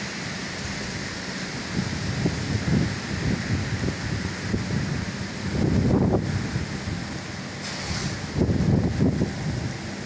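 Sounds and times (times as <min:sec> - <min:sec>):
rain hissing: 0:00.0 - 0:10.0
wind buffeting microphone: 0:00.6 - 0:10.0.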